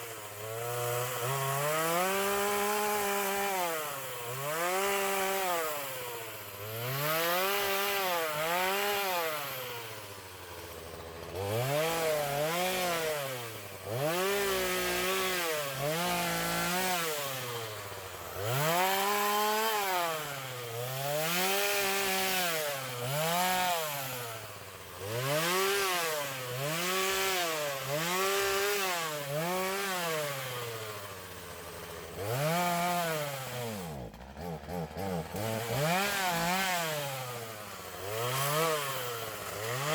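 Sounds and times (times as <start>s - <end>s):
saw sawing in strokes: 0.0s - 39.9s.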